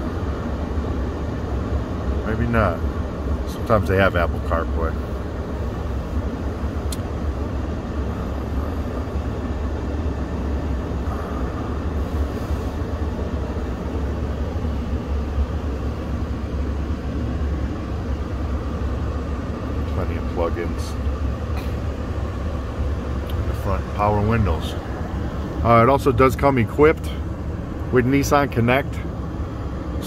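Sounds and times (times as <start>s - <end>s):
climate fan blowing: 0.0s - 30.0s
vehicle cab rumble: 0.0s - 30.0s.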